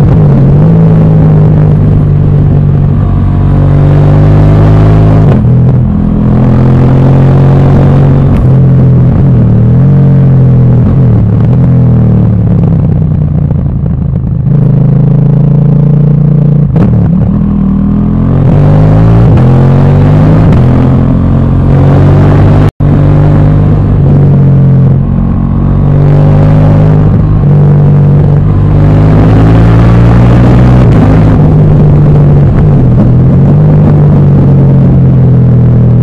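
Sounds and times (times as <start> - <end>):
motorcycle engine shifting gears: 0.0 - 36.0.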